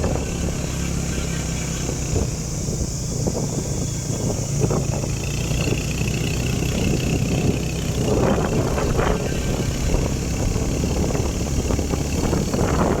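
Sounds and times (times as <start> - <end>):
vehicle engine running: 0.0 - 13.0
wind noise on microphone: 0.0 - 13.0.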